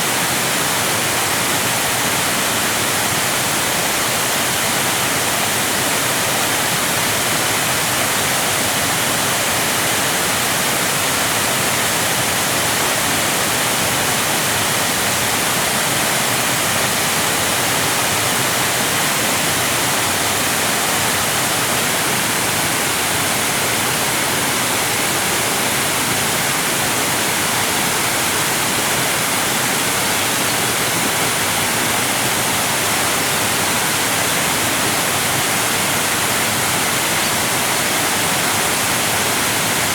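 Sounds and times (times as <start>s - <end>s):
waterfall cascading: 0.0s - 39.9s.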